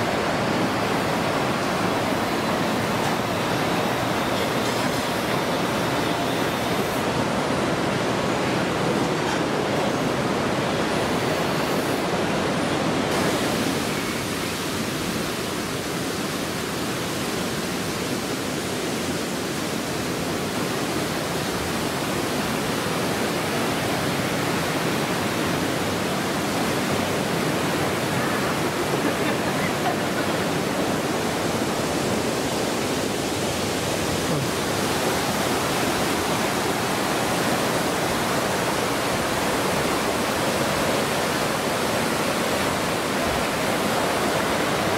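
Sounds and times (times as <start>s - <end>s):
stream rushing over boulders: 0.0s - 44.9s.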